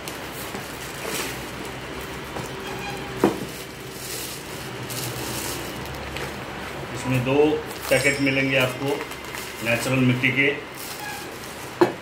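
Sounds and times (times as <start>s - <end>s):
cardboard packing rustling: 0.0s - 12.0s.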